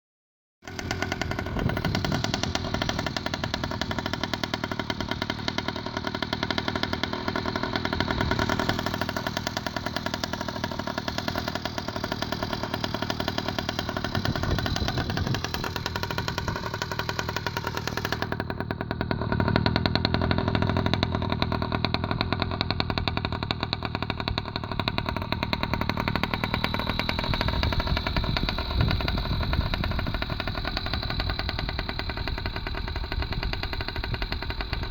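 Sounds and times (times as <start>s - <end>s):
two-stroke engine popping exhaust: 0.6s - 34.9s.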